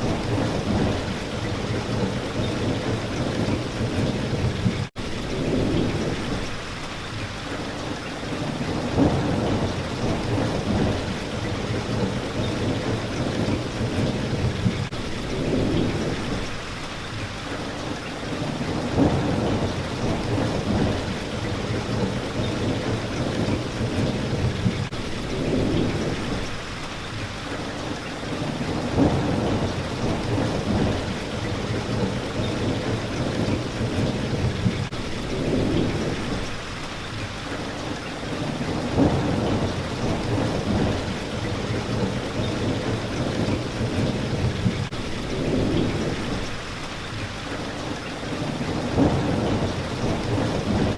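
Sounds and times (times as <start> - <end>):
thunder rumbling: 0.0 - 6.8, 8.2 - 16.8, 18.3 - 27.0, 28.2 - 37.2, 38.2 - 47.3, 48.2 - 50.9
heavy rain on a window: 0.0 - 50.9.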